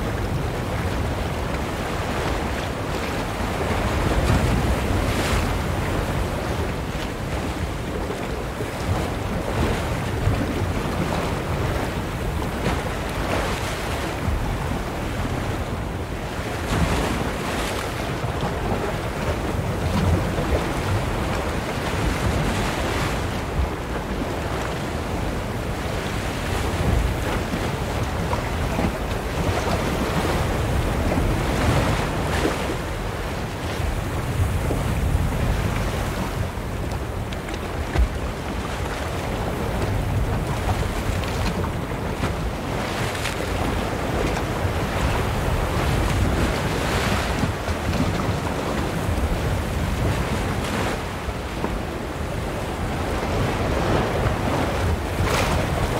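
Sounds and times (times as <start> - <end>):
waves breaking on shore: 0.0 - 55.9.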